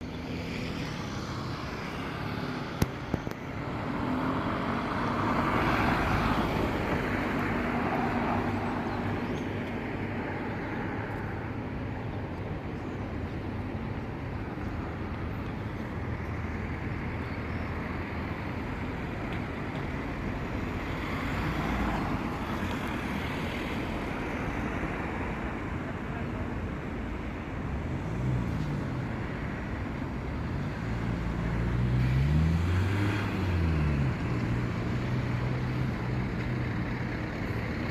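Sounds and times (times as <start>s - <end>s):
road traffic: 0.0s - 37.9s.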